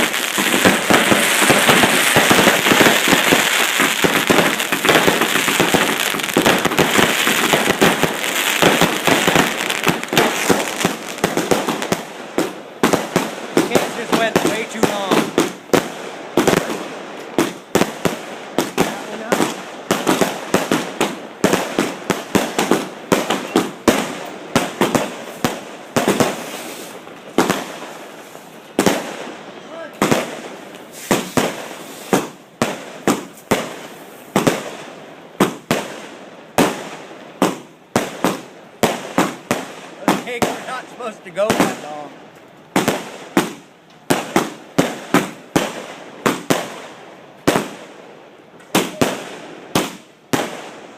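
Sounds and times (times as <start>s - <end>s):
firework bangs with crackling: 0.0s - 50.9s.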